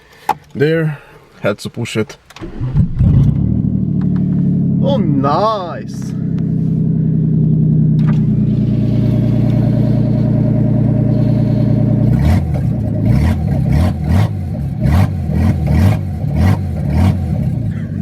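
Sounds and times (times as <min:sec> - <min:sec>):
car engine revving without exhaust: 0:02.4 - 0:18.0.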